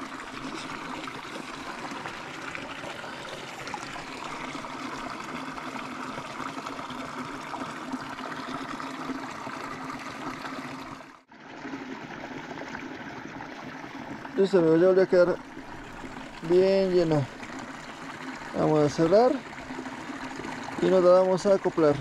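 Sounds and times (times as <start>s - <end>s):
shallow stream running: 0.0s - 22.0s
water pouring from a cup: 0.0s - 22.0s.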